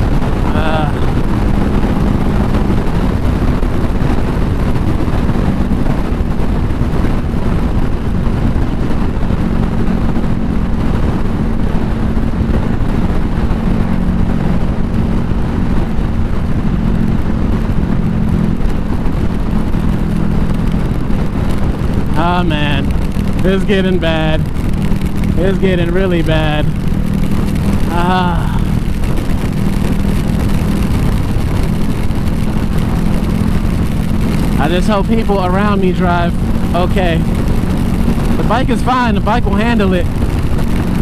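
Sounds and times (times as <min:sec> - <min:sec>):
heavy rain: 0:00.0 - 0:41.0
motorcycle engine cruising: 0:00.0 - 0:41.0
wind rushing: 0:00.0 - 0:41.0.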